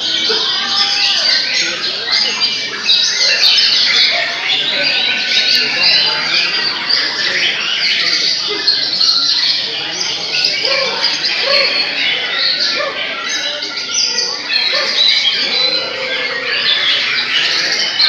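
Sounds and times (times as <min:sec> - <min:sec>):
caged songbirds singing: 0:00.0 - 0:18.0.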